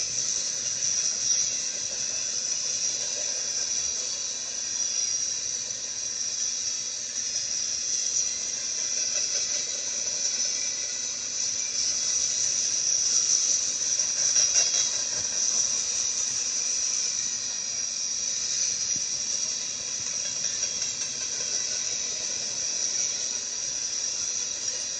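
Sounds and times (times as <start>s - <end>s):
steel wheels hissing on rail: 0.0s - 24.9s.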